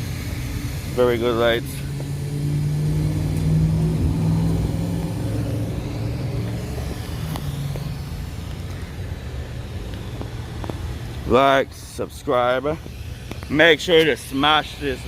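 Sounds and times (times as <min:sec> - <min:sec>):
car engine humming: 0:00.0 - 0:15.0.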